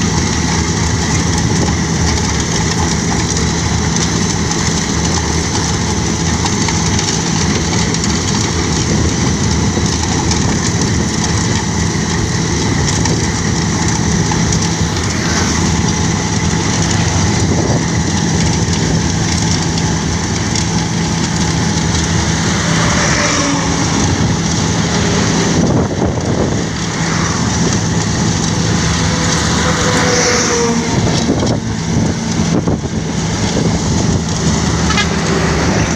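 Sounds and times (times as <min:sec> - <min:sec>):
milling machine diesel engine: 0:00.0 - 0:35.9.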